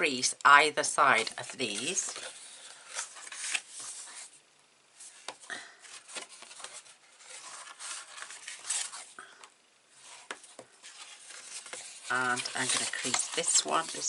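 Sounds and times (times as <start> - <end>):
paper rustling and scraping: 1.0 - 4.4, 5.0 - 9.2, 10.0 - 14.0.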